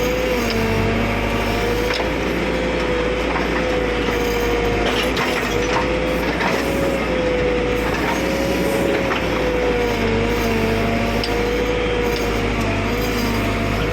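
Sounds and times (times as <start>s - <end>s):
engine humming with whine: 0.0s - 13.9s.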